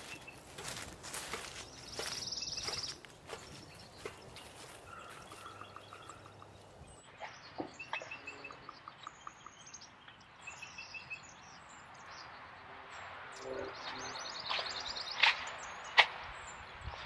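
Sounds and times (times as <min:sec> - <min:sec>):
birds chirping and singing: 0:00.0 - 0:12.6, 0:13.4 - 0:17.0.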